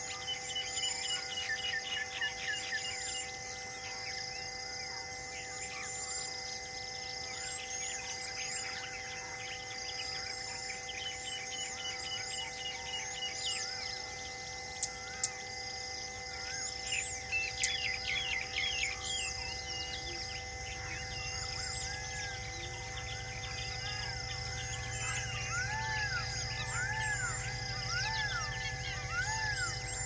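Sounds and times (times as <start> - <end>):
birds chirping: 0.0 - 30.0
humming drone: 0.0 - 30.0.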